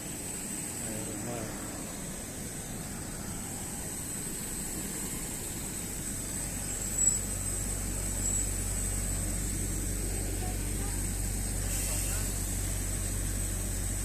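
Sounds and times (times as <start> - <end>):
jet aircraft whine: 0.0 - 14.0.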